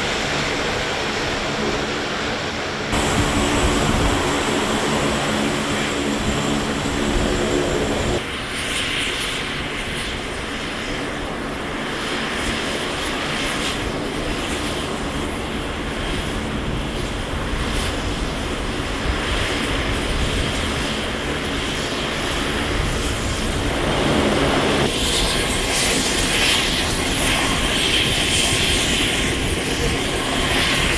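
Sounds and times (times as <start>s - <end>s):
turboprop aircraft taxiing: 0.0s - 30.9s.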